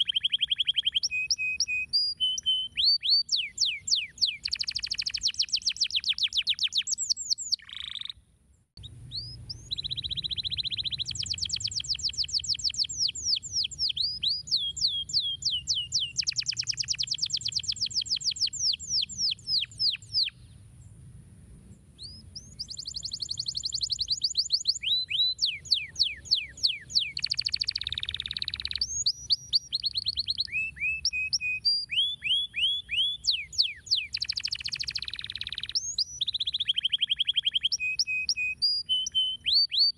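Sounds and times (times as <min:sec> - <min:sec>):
canary singing trills: 0:00.0 - 0:08.2, 0:08.8 - 0:20.6, 0:22.0 - 0:39.9.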